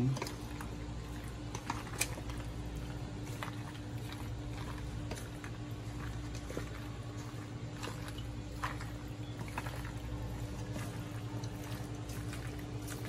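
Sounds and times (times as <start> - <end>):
pasta salad squishing in bowl: 0.0 - 13.0
steady low hum: 0.0 - 13.0.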